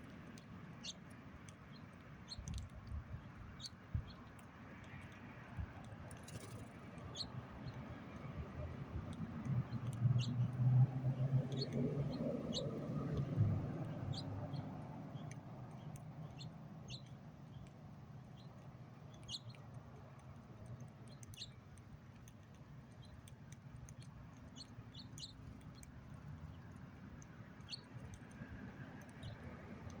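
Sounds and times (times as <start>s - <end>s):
birds chirping: 0.0s - 8.4s, 9.1s - 30.0s
low background rumble: 0.0s - 30.0s.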